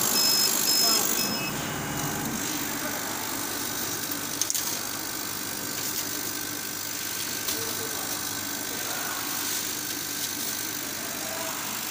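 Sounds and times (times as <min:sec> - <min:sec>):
laser cutter hum and hiss: 0:00.0 - 0:11.9.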